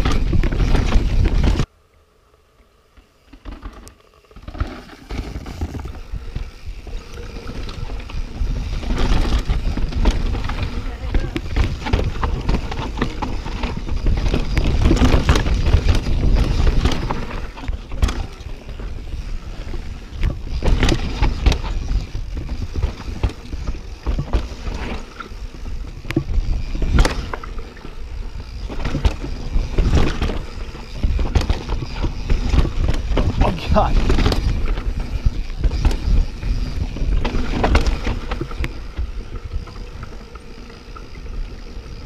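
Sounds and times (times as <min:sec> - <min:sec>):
bike knocking and rattling: 0:00.0 - 0:01.7, 0:03.0 - 0:42.0
bike tyres rumbling on trail: 0:00.0 - 0:01.8, 0:02.8 - 0:42.0.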